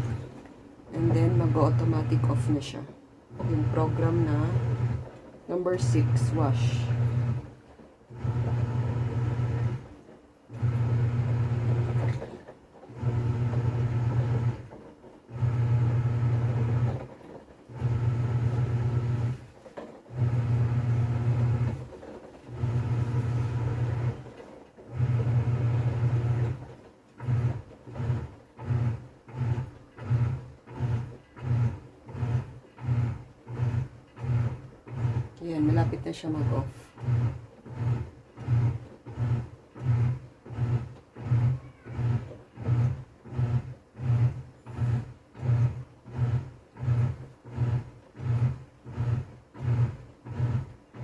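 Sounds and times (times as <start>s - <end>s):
washing machine motor humming in bursts: 0.0s - 51.0s.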